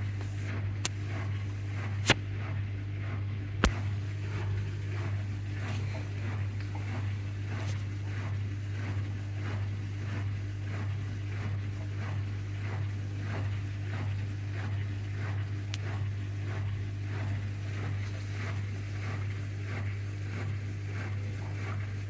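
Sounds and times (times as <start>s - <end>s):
washing machine humming and swishing: 0.0s - 22.0s.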